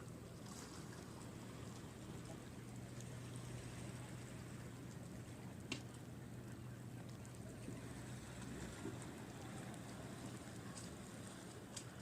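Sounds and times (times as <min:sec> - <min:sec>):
distant sea surf: 0:00.0 - 0:12.0
low steady hum: 0:00.0 - 0:12.0.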